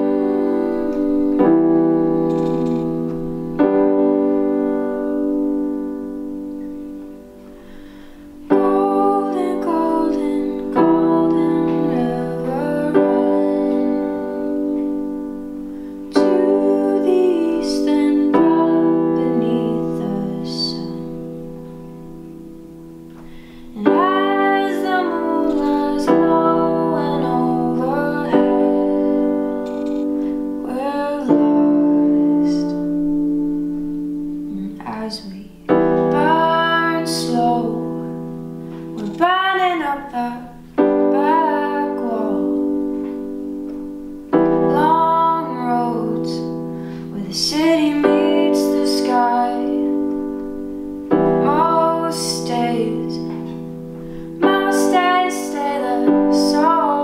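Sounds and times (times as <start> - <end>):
digital piano chords: 0.0 - 57.0.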